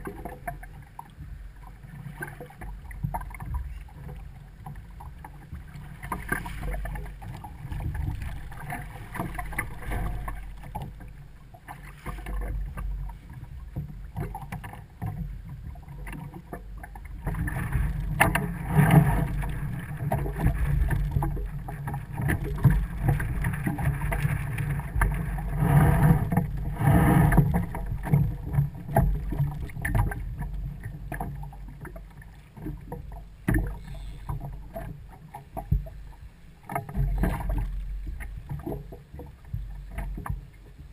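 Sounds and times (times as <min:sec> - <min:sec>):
muffled water sloshing around kayak: 0:00.0 - 0:40.9.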